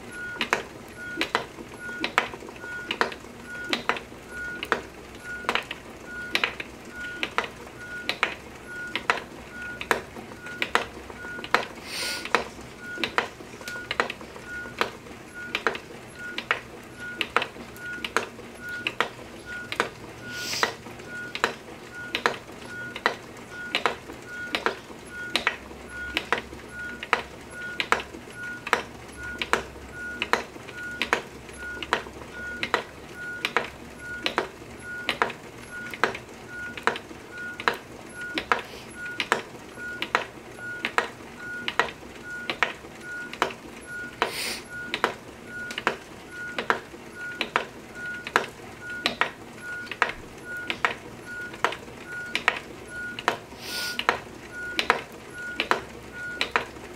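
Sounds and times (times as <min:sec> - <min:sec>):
spinning wheel clicking rhythmically: 0:00.0 - 0:56.9.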